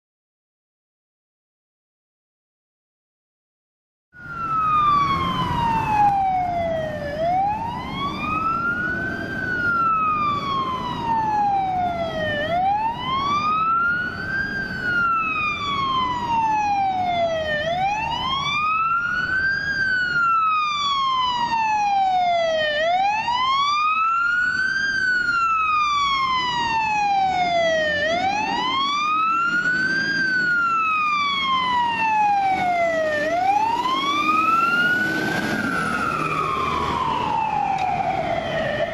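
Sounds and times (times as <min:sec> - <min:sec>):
fire engine siren wailing: 0:04.2 - 0:38.9.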